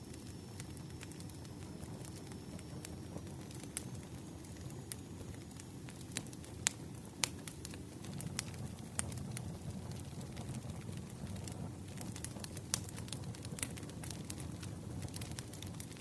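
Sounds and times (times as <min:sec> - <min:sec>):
wood fire crackling: 0:00.0 - 0:16.0
sharp pops of fire: 0:00.1 - 0:16.0.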